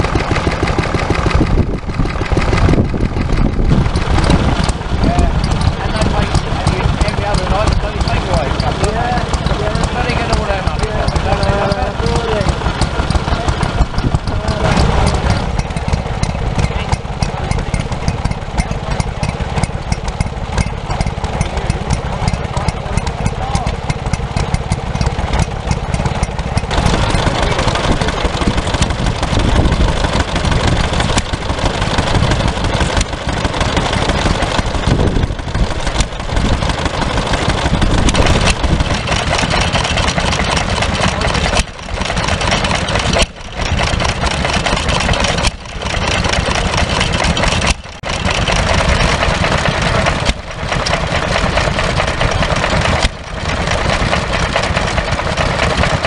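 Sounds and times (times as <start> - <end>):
stationary engines running: 0.0 - 56.0.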